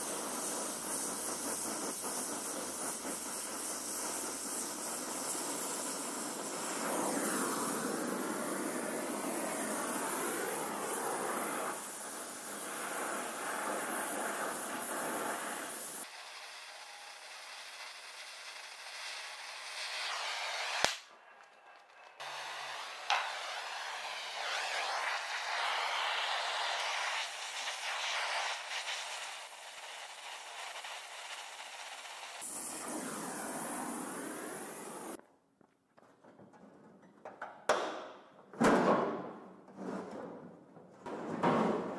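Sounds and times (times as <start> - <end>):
gas torch flame hissing: 0.0 - 35.2.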